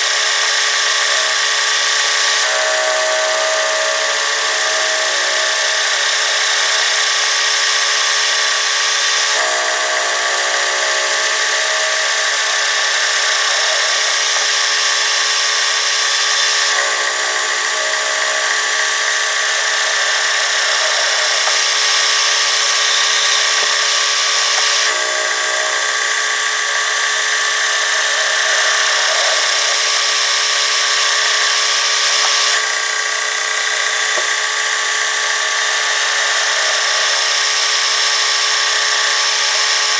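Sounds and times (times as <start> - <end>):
lathe whine: 0.0 - 39.9.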